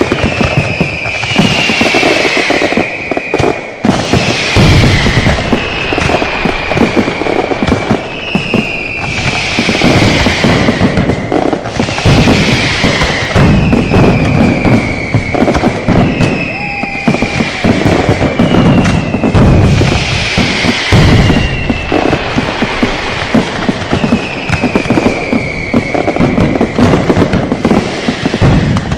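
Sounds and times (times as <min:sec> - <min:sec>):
firecrackers banging and crackling: 0:00.0 - 0:28.9
whistling fireworks: 0:00.0 - 0:28.9.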